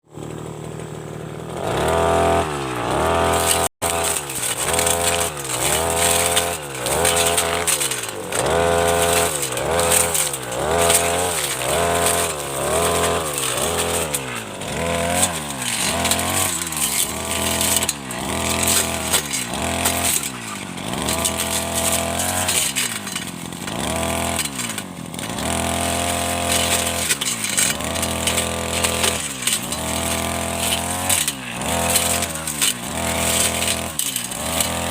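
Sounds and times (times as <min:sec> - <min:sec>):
brush cutter engine revving: 0:00.0 - 0:34.9.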